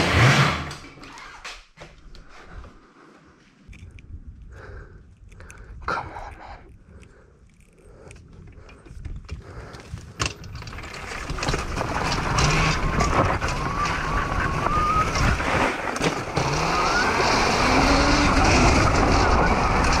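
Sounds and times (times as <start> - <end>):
wind and tyres on dirt: 0.0 - 20.0.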